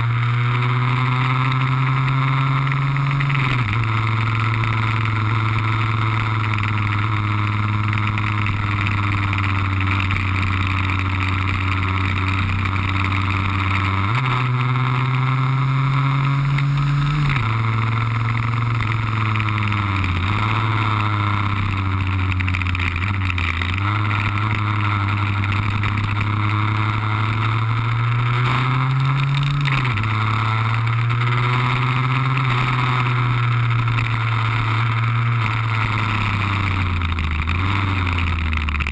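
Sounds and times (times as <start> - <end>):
scooter engine running hard: 0.0 - 38.9.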